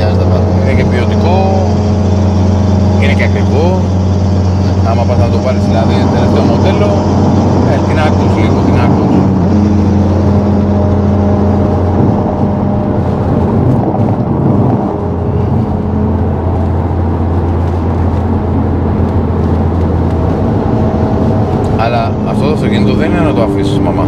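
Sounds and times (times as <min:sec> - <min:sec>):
engine drone: 0:00.0 - 0:24.0
road noise: 0:00.0 - 0:24.0.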